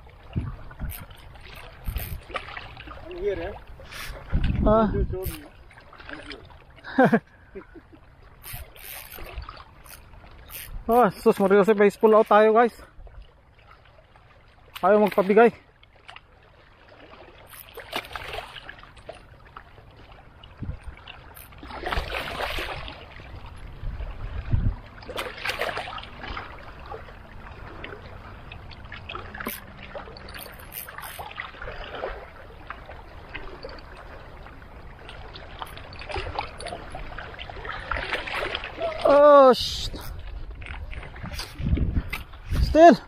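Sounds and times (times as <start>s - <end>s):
water sloshing and splashing: 0.0s - 43.0s.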